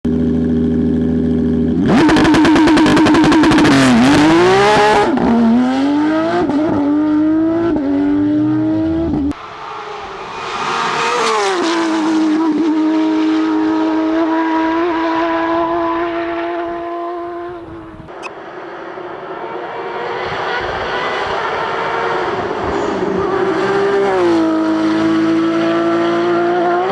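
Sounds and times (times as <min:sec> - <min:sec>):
car engine accelerating hard: 0:00.1 - 0:26.9.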